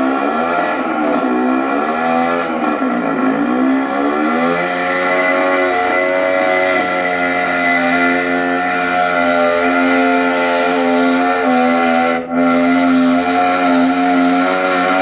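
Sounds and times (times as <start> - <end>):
engine running at high revs: 0.0 - 15.0.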